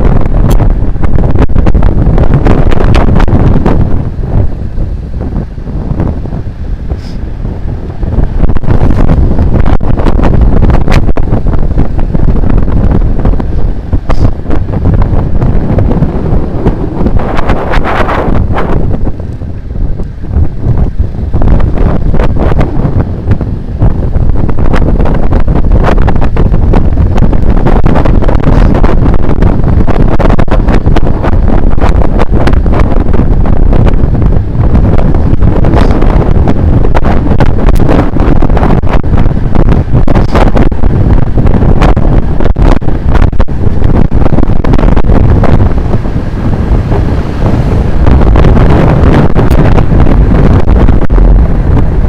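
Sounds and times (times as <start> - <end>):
wind buffeting on microphone: 0.0 - 52.0.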